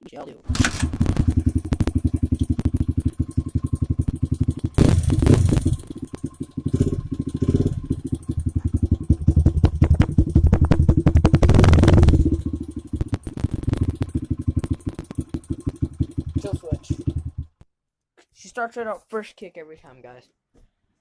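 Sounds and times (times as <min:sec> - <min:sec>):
motorcycle engine idling and revving: 0:00.5 - 0:17.6.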